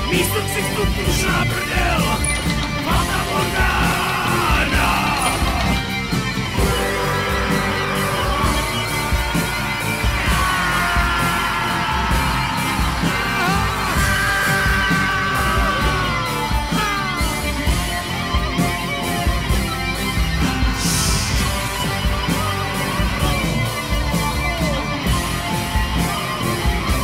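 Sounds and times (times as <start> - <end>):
music with pounding beat: 0.0 - 27.0.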